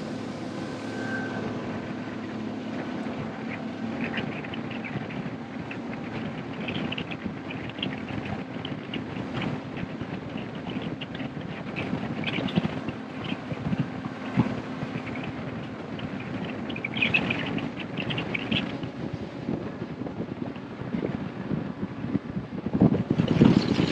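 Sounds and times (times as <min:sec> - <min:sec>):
outboard motor humming: 0:00.0 - 0:23.9
wind and water rushing: 0:00.0 - 0:23.9.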